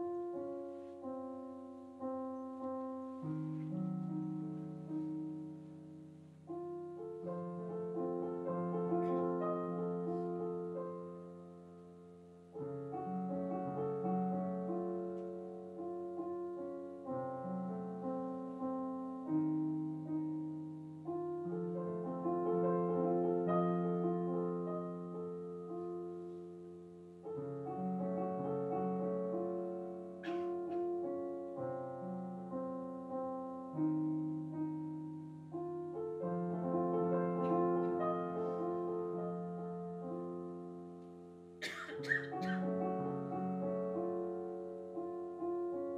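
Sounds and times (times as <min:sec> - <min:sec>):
solo piano music: 0:00.0 - 0:45.9.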